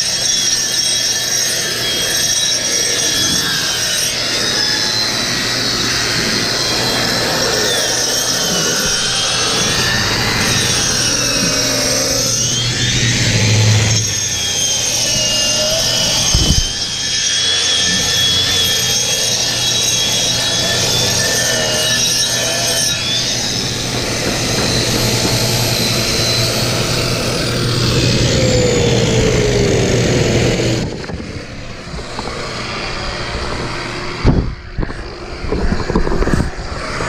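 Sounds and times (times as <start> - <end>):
angle grinder whining: 0.0 - 37.0
steady hum: 2.9 - 37.0.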